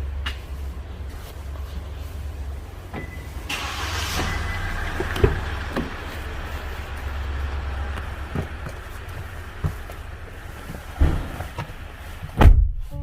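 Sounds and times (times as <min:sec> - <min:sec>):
van engine rumbling: 0:00.0 - 0:13.0.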